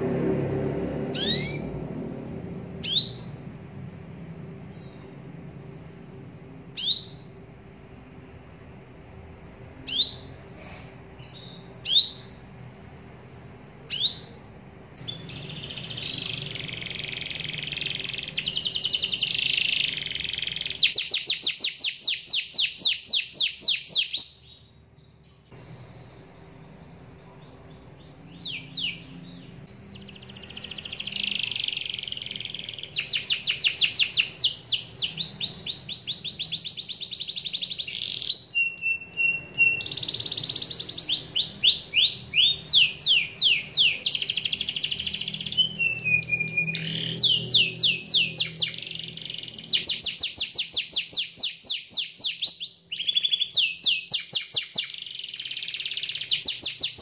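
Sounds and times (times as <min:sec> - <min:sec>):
canary chirping and trilling: 0:00.0 - 0:57.0.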